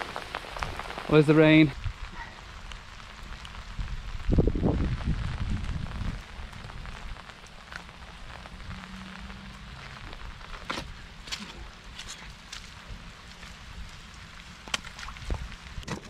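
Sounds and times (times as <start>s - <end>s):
rain falling steadily: 0.0s - 16.0s.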